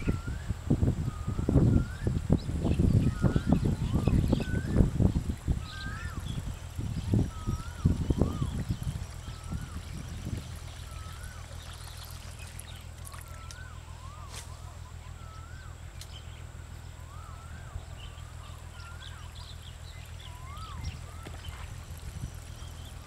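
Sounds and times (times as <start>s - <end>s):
bird whistling call: 0.0s - 4.9s, 5.6s - 23.0s
steady low hum: 0.0s - 23.0s.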